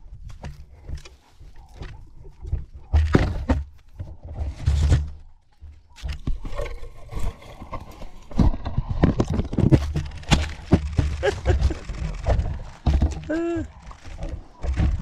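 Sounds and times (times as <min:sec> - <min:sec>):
knocks and scrapes on camera: 0:00.2 - 0:15.0.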